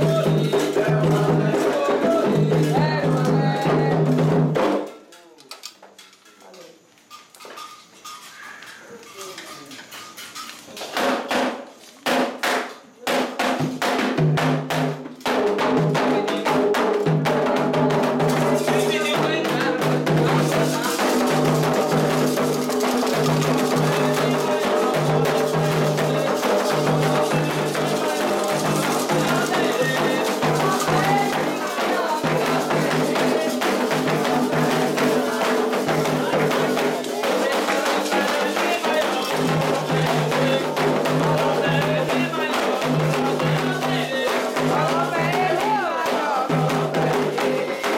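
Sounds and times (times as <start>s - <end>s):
hand drums playing fast beat: 0.0s - 4.9s, 11.0s - 47.9s
voices singing: 0.0s - 4.9s, 13.0s - 47.9s.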